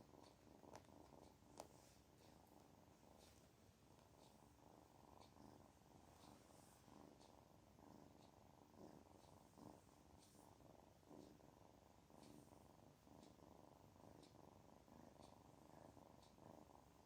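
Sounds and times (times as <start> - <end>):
kitten purring: 0.0 - 17.0.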